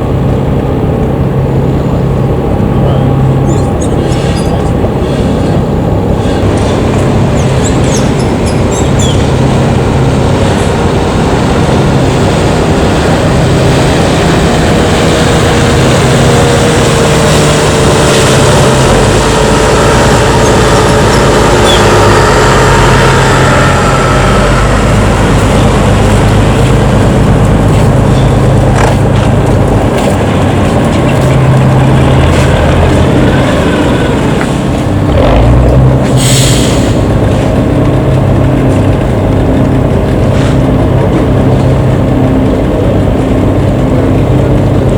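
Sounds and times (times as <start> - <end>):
jet engines running: 0.0 - 44.9.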